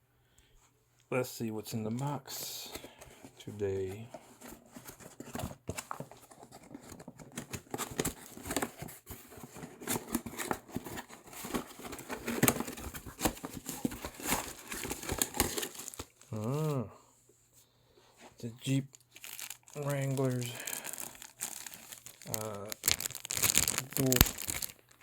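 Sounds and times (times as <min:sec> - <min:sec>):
cardboard rustling and crinkling: 0:02.0 - 0:16.8, 0:18.1 - 0:25.0.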